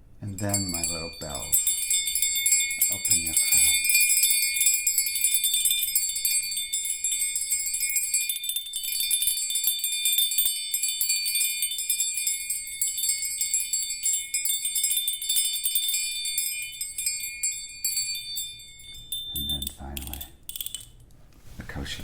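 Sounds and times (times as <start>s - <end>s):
hand bells jingling: 0.2s - 21.1s.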